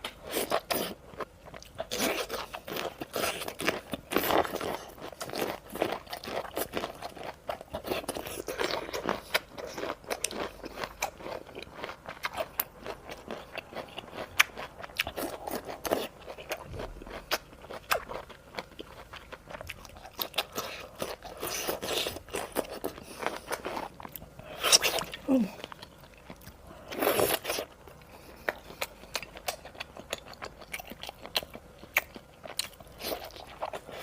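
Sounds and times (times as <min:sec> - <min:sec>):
person chewing crunchy food: 0:00.0 - 0:34.0.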